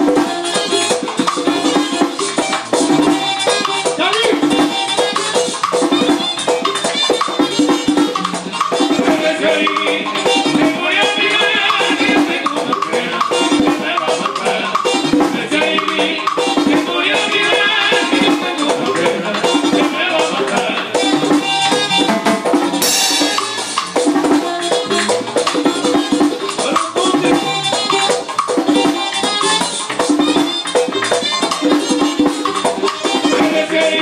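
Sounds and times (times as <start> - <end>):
salsa band music: 0.0 - 34.0.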